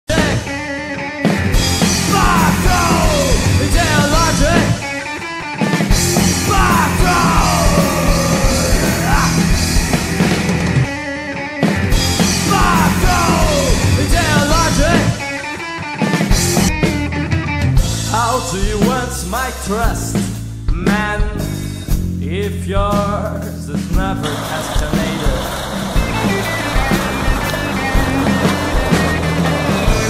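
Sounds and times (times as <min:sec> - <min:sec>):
punk rock band playing: 0:00.1 - 0:30.0.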